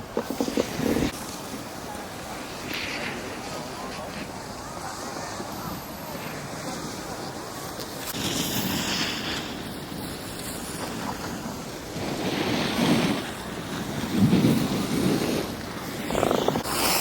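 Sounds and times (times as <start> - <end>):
wind rushing over microphone: 0.0 - 2.4, 5.1 - 17.0.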